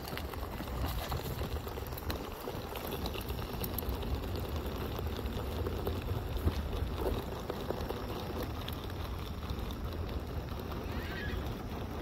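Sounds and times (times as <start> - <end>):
wheels rolling over asphalt: 0.0 - 12.0.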